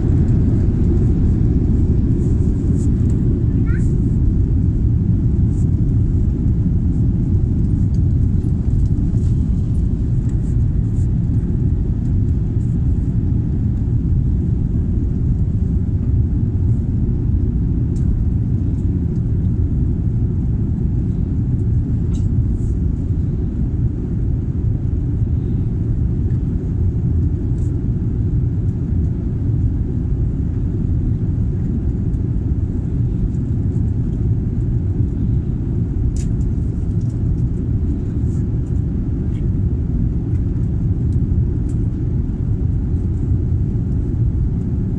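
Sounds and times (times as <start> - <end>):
jet cabin engine rumble: 0.0 - 44.9.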